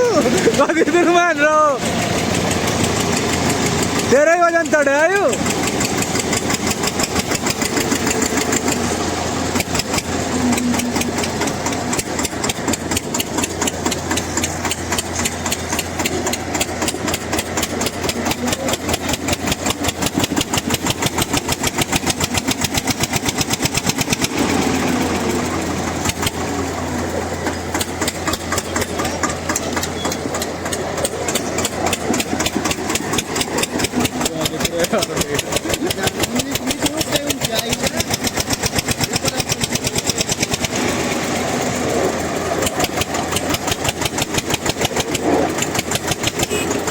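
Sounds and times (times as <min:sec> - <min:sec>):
diesel tractor engines under load: 0:00.0 - 0:46.9.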